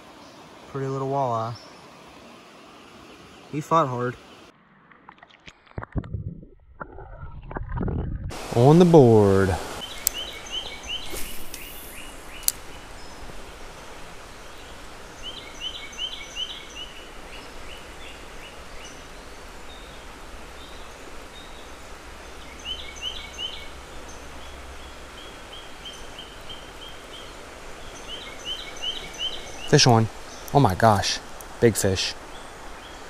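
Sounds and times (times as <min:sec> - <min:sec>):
songbird singing: 0:00.0 - 0:04.5, 0:08.6 - 0:33.0
outdoor hiss: 0:00.0 - 0:04.9, 0:08.3 - 0:33.0.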